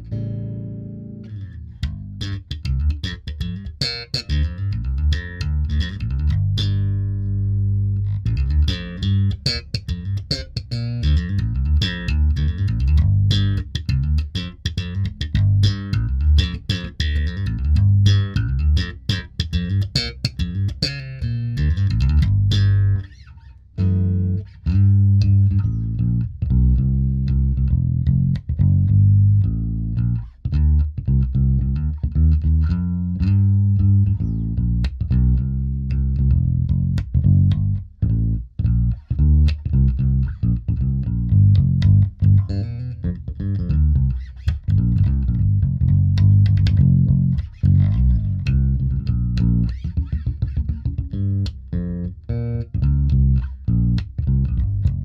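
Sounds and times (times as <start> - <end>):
electric bass plucked notes: 0.0 - 55.0.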